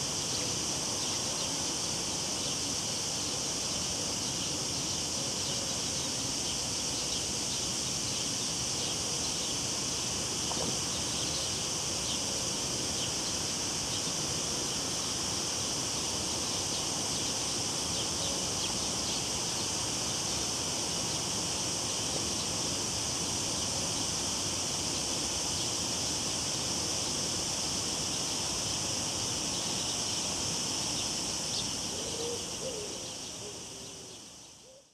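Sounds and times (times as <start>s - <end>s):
cicadas droning: 0.0s - 34.9s.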